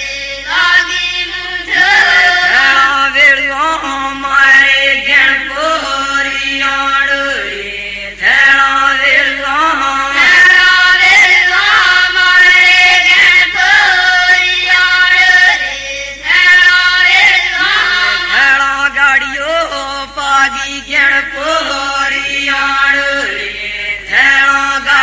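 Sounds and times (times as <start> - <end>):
group singing a chant: 0.0 - 25.0.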